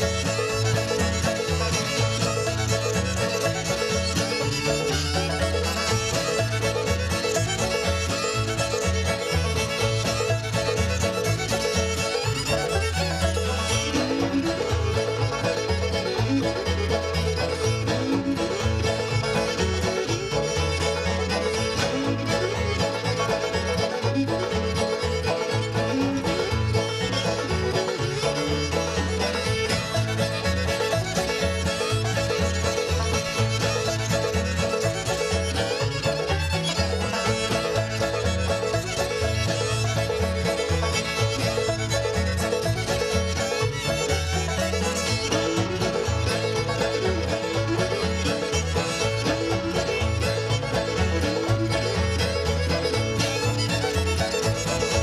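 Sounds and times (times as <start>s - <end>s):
banjo: 0.0s - 55.0s
bass line: 0.0s - 55.0s
fiddle: 0.0s - 55.0s
guitar: 0.0s - 55.0s.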